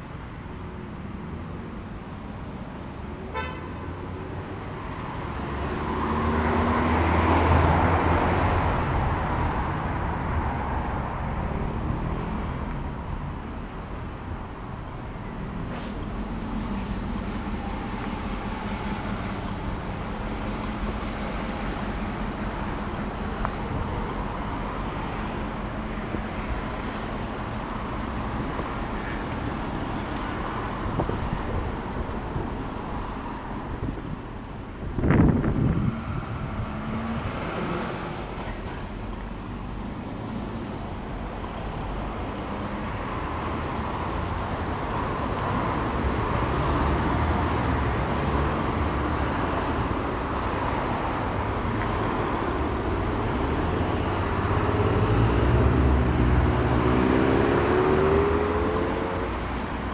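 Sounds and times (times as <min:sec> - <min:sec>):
passing cars: 0:00.0 - 0:59.9.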